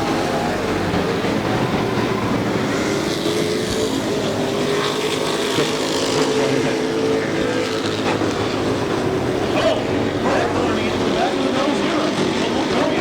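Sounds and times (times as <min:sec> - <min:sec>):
race truck engines running: 0:00.0 - 0:13.0.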